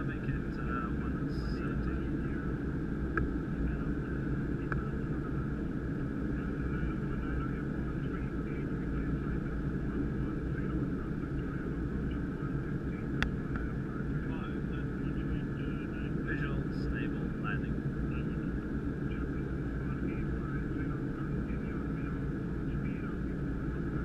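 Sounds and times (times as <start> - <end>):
jet cockpit engine rumble: 0.0 - 24.0.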